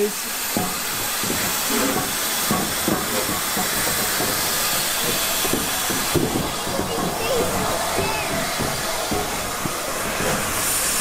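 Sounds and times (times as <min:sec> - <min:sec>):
hiss of escaping steam: 0:00.0 - 0:11.0.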